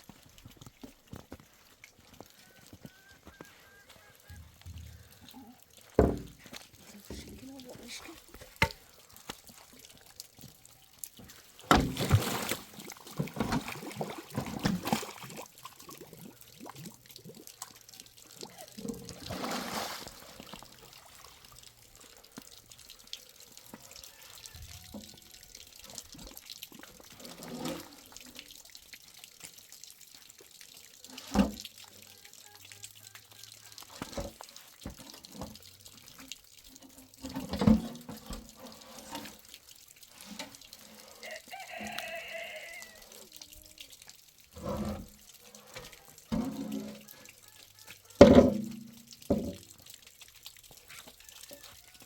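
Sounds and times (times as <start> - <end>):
water pouring and splashing: 0.0 - 52.0.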